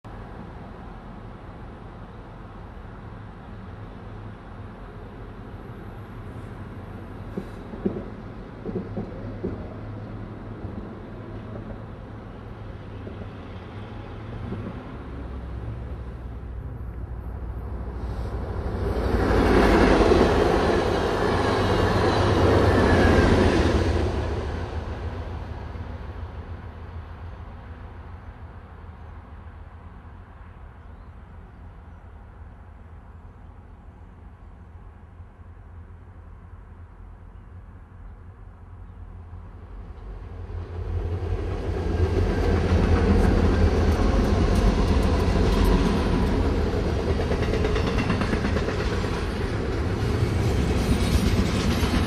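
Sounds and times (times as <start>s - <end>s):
low rumble of freight train: 0.0s - 52.0s
train wheel-on-rail rush: 0.1s - 52.0s.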